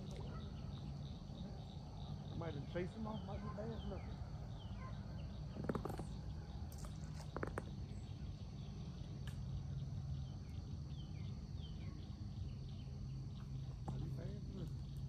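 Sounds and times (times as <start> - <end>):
bird chirping: 0.0 - 15.0
insects buzzing: 0.0 - 15.0.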